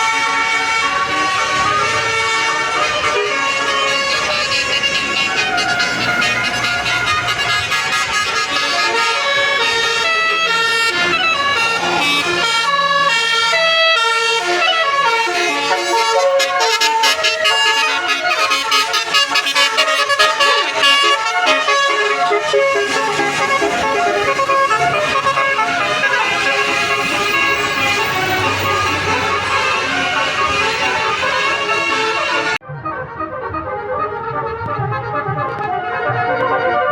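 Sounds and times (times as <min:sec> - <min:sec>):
multi-tone bus horn tune: 0:00.0 - 0:36.9.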